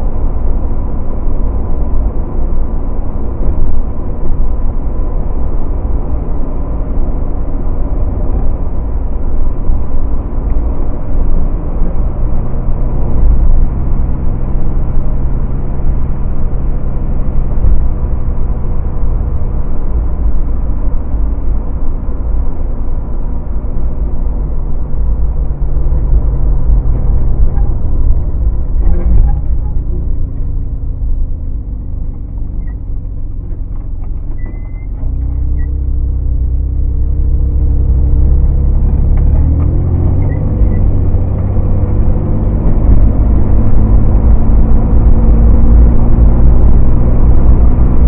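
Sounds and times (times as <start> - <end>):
car engine running: 0.0 - 48.0
road and wind rumble: 0.0 - 48.0.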